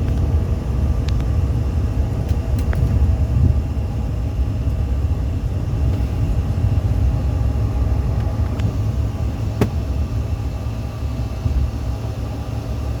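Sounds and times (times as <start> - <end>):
aircraft taking off: 0.0 - 13.0.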